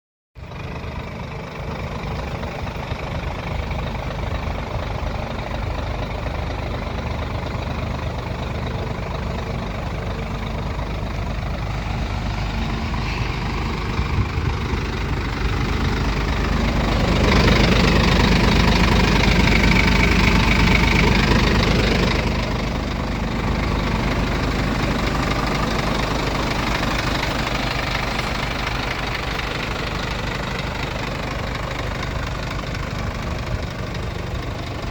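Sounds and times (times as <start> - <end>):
diesel truck engine idling and revving: 0.4 - 34.9.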